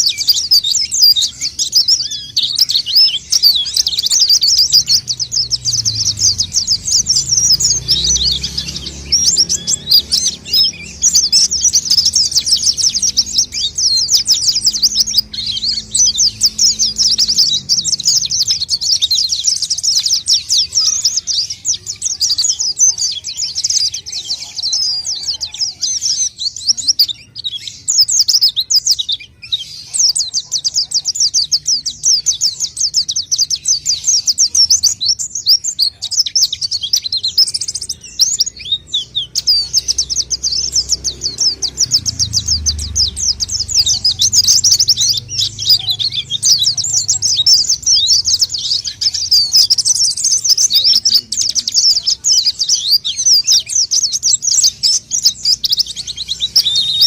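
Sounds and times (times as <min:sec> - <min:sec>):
bird twittering and trilling: 0:00.0 - 0:57.0.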